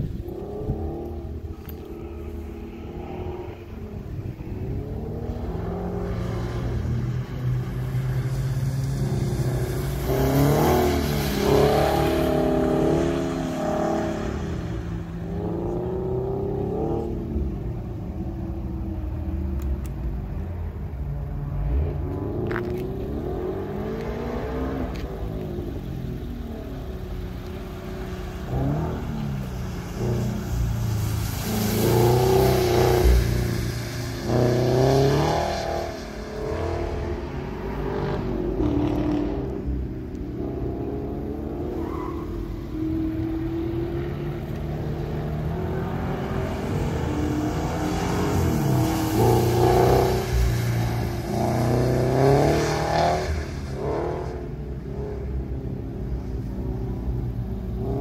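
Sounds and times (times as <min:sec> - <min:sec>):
car engine revving: 0:00.0 - 0:20.0, 0:21.5 - 0:58.0.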